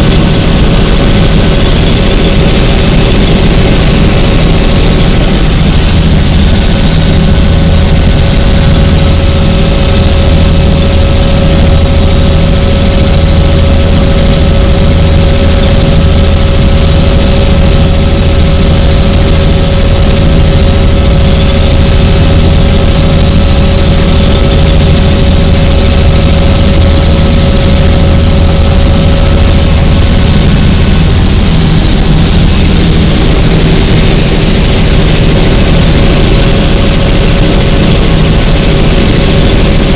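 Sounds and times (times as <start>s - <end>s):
helicopter engine and rotor drone: 0.0s - 39.9s
high whine: 0.0s - 39.9s.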